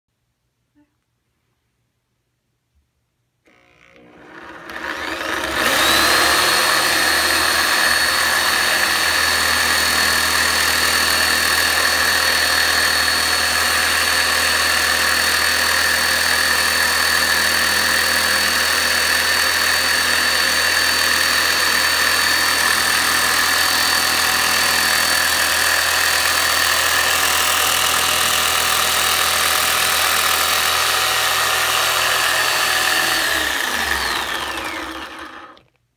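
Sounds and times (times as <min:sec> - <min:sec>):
reciprocating saw whining: 0:03.5 - 0:35.7.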